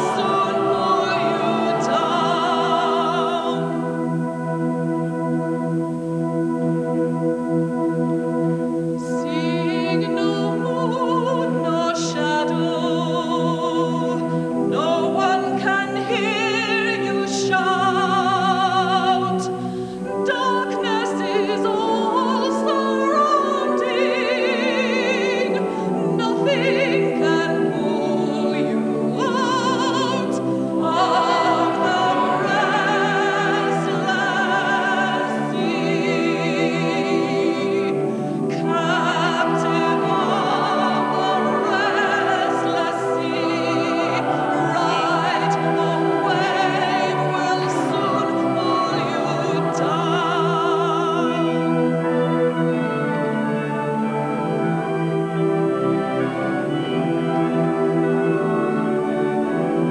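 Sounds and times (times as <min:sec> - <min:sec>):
operatic voice singing: 0:00.0 - 0:04.4, 0:09.0 - 0:59.9
sustained accompaniment: 0:00.0 - 0:59.9.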